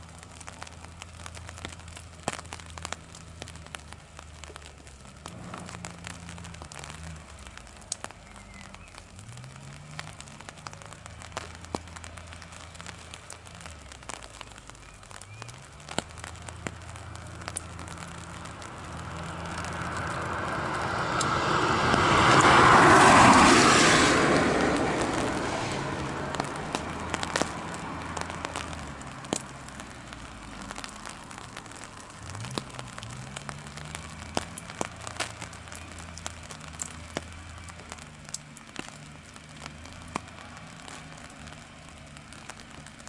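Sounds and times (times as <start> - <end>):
raindrops ticking on an umbrella: 0.0 - 43.0
vehicle passing: 0.1 - 43.0.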